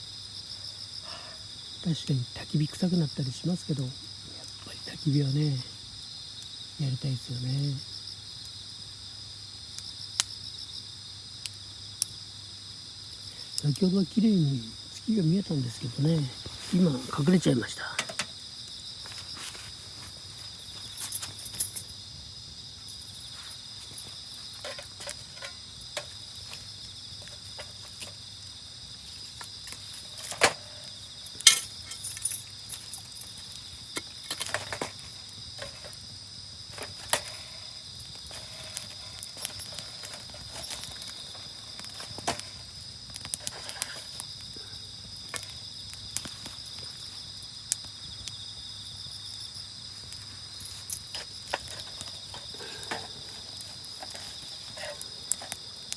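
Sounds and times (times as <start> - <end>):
crickets chirping: 0.0 - 55.9
campfire crackling and popping: 0.1 - 55.9.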